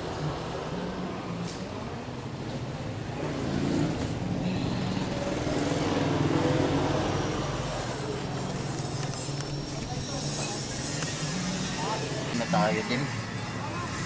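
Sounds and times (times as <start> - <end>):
road traffic engines humming: 0.0 - 14.0.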